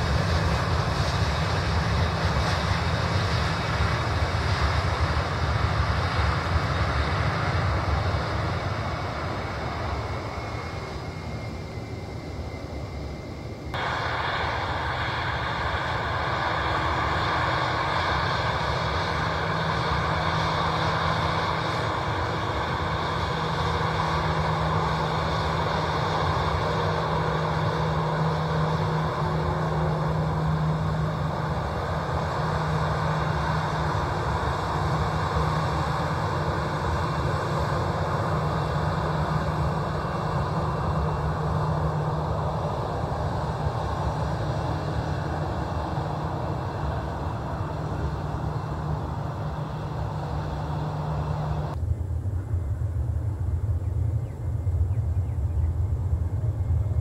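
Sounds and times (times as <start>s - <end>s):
jet engines at taxi power: 0.0s - 57.0s.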